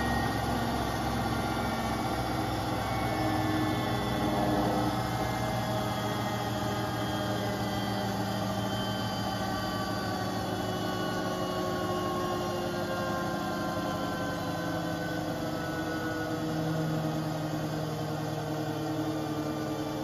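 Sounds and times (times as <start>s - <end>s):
motor whine: 0.0s - 20.0s.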